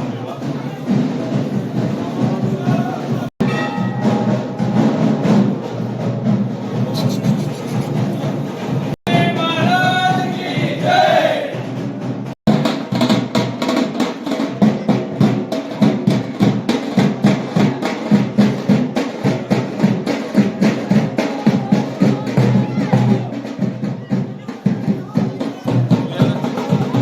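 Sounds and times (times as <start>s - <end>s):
drums beating fast rhythm: 0.0s - 27.0s.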